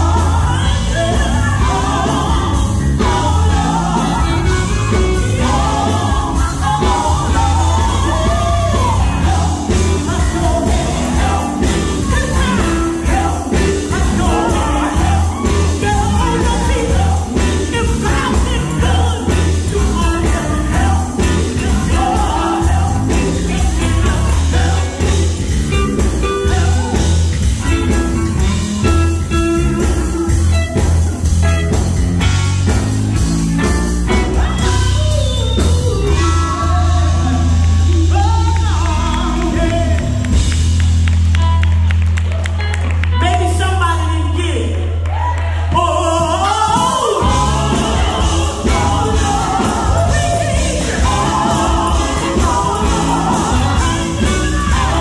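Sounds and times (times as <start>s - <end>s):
women singing gospel: 0.0s - 40.5s, 45.1s - 55.0s
electric guitars: 0.0s - 43.8s, 46.6s - 55.0s
heavy steady bass line: 0.0s - 44.6s, 45.8s - 55.0s.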